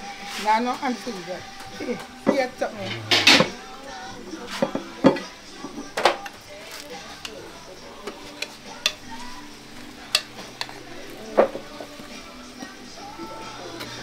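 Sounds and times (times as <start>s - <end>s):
spoons and lids clanking on pots: 0.2s - 14.0s.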